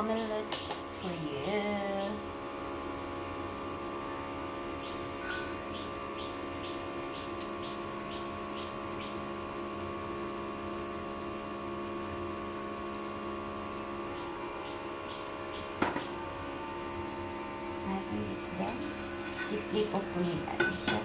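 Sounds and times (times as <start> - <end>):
omelette sizzling in a pan: 2.2 - 21.0.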